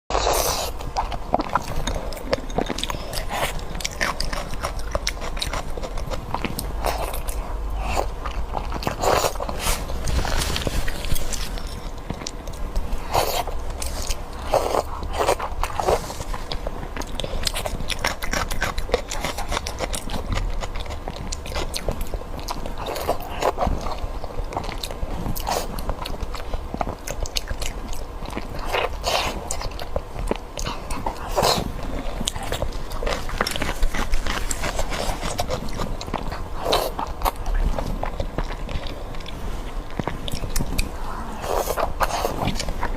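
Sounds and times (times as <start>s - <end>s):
person chewing crunchy food: 0.1s - 42.9s.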